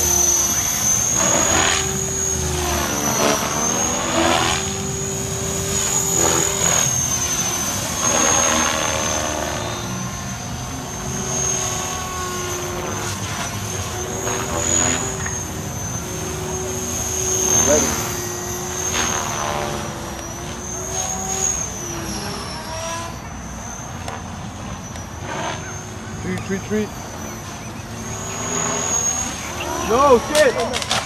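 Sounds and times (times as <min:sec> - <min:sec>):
rc helicopter motor whine: 0:00.0 - 0:31.0
rotor blades whooshing: 0:00.0 - 0:31.0.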